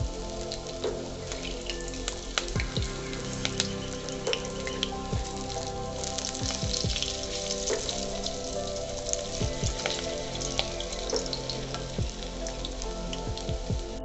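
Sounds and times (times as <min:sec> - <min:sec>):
background music with held notes: 0:00.0 - 0:14.0
food sizzling in hot oil: 0:00.0 - 0:14.0.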